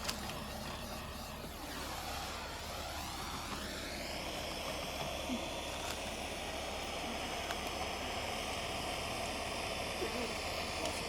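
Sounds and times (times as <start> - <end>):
torch hissing: 0.0 - 11.0.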